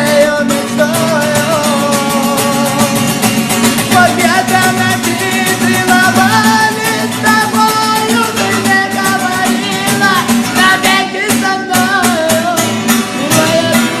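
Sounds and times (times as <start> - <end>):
person singing: 0.0 - 14.0
plucked guitar: 0.0 - 14.0.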